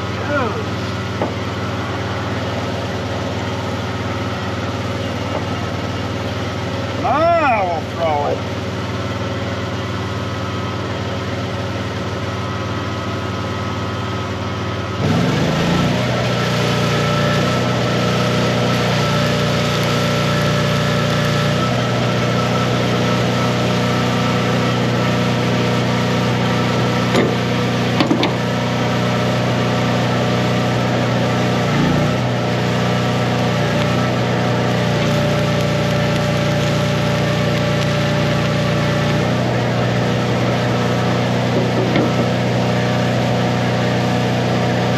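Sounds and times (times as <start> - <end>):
welder engine running: 0.0 - 44.9.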